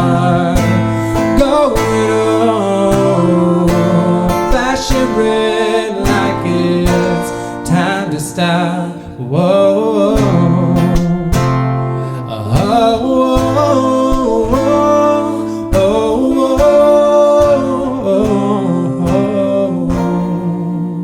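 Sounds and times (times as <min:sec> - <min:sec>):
acoustic guitar strumming: 0:00.0 - 0:21.0
wordless singing: 0:00.0 - 0:21.0.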